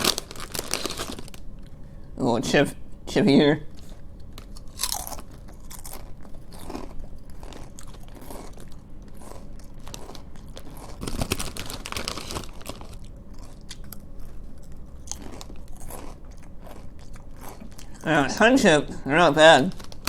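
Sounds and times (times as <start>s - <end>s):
person chewing crisp chips: 0.0s - 1.8s, 3.7s - 18.4s, 19.4s - 20.0s.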